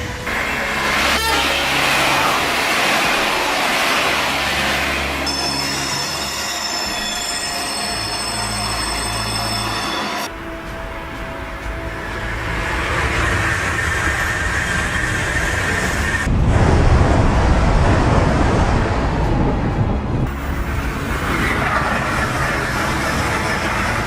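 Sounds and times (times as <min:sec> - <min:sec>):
train running at speed: 0:00.0 - 0:24.0.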